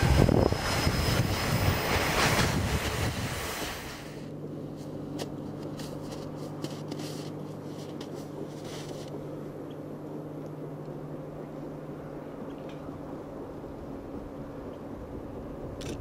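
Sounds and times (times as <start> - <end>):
distant diesel locomotive hum: 0.0 - 16.0.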